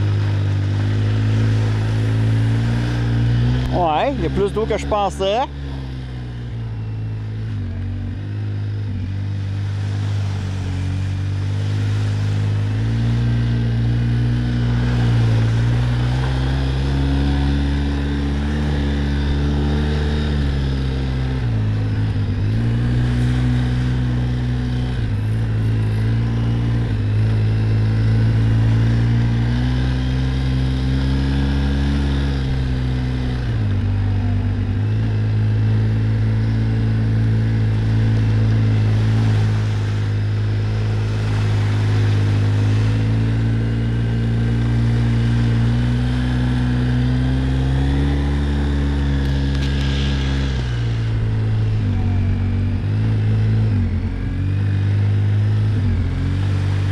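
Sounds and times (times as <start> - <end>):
quad bike engine revving: 0.0 - 56.9.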